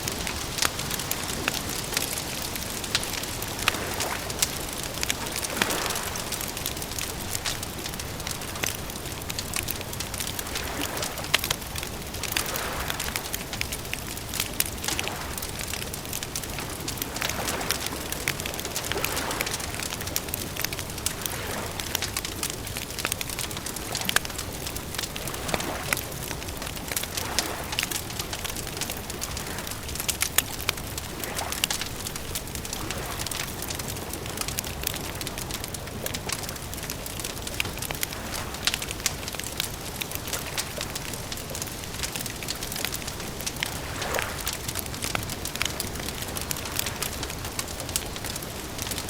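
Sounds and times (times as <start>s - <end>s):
campfire crackling and popping: 0.0s - 49.0s.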